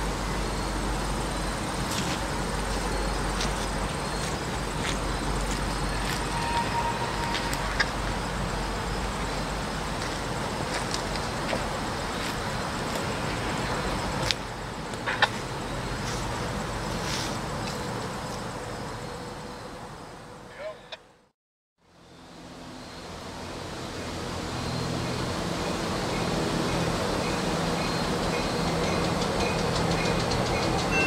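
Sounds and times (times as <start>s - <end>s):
freight train rumbling: 0.0s - 20.6s, 22.6s - 31.0s.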